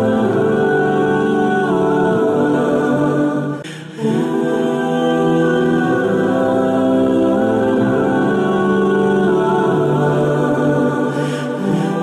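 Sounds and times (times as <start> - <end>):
choir-like voices: 0.0 - 12.0
sustained tones: 0.0 - 12.0.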